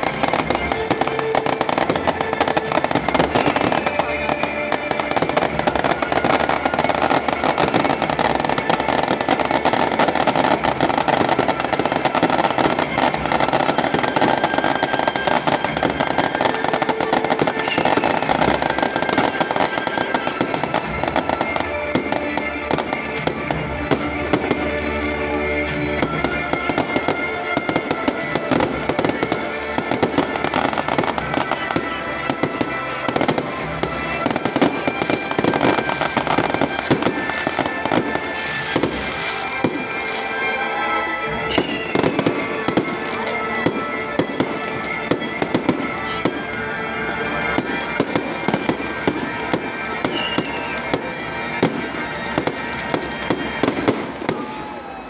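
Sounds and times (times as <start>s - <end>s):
music playing: 0.0s - 55.0s.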